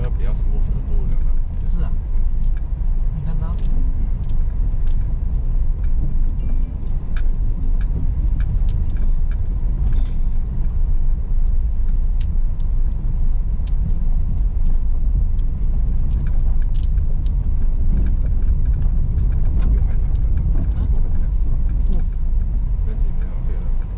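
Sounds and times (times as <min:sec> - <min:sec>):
car driving on rough road: 0:00.0 - 0:23.9
small clicks and rattles: 0:00.8 - 0:23.9.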